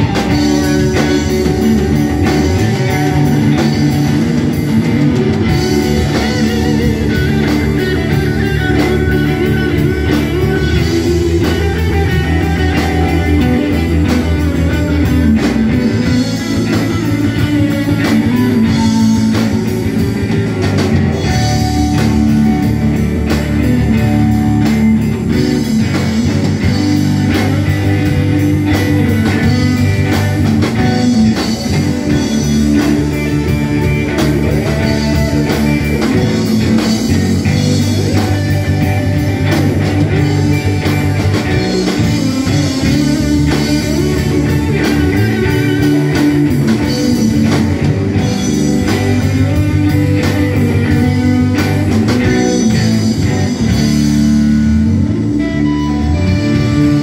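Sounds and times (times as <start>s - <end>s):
drum kit beat: 0.0s - 57.0s
electric bass guitar: 0.0s - 57.0s
electric guitars: 0.0s - 57.0s.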